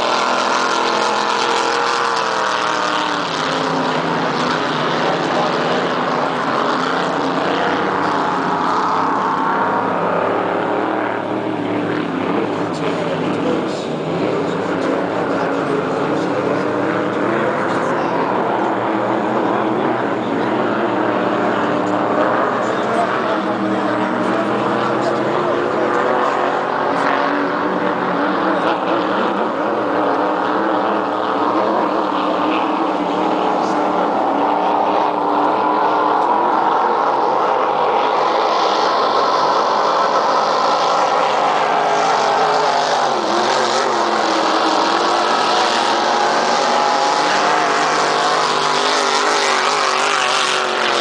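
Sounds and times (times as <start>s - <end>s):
racing boat engine running: 0.0s - 51.0s.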